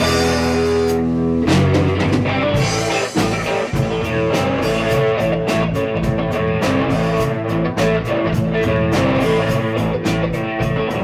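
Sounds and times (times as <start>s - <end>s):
live rock band playing: 0.0s - 11.0s
steady drum beat: 0.0s - 11.0s.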